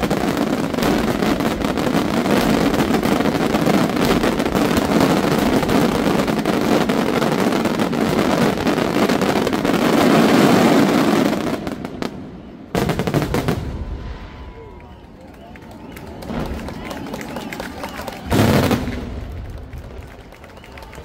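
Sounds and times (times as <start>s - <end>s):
fireworks bangs and crackle: 0.0s - 21.0s.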